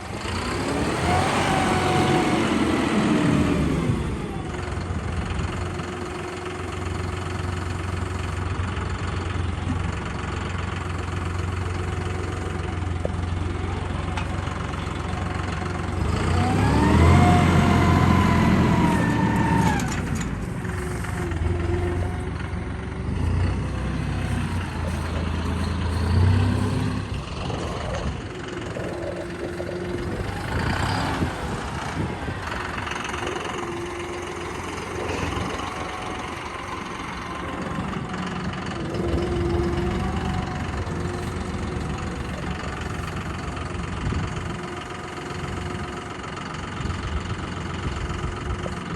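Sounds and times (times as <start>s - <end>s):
vehicle engine revving: 0.0s - 8.5s, 11.1s - 46.2s.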